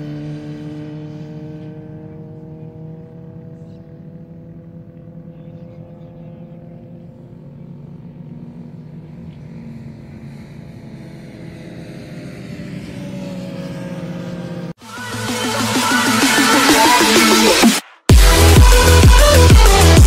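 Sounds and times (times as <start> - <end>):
motorcycle engines running: 0.0 - 17.5.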